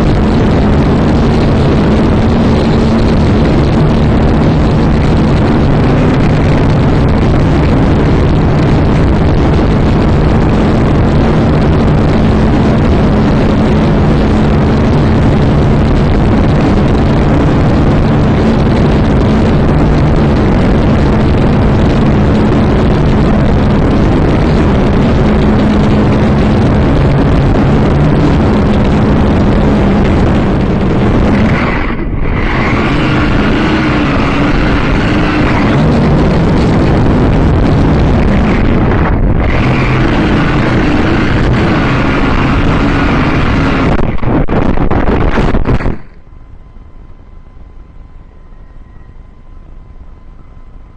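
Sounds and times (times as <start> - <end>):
drone propellers humming: 0.0 - 50.9
wind noise on microphone: 0.0 - 50.9.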